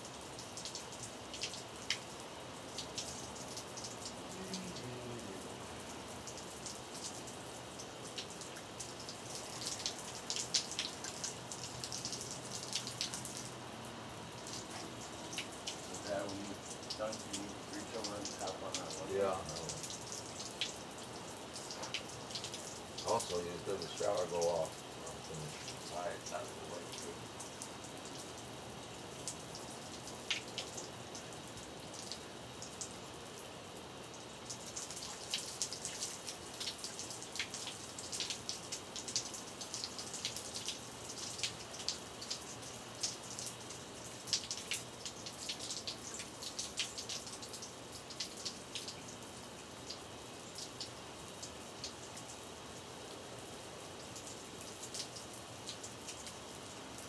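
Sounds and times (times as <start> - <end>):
shower running: 0.0 - 57.0.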